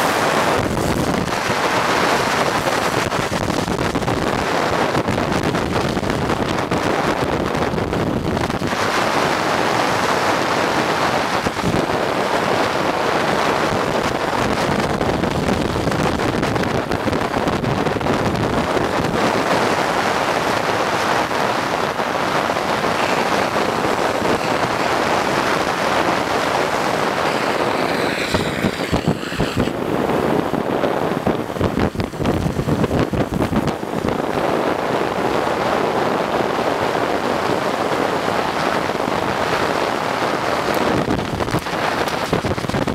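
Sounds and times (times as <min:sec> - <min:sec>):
skateboard road noise: 0:00.0 - 0:42.9
wind rushing on microphone: 0:00.0 - 0:42.9.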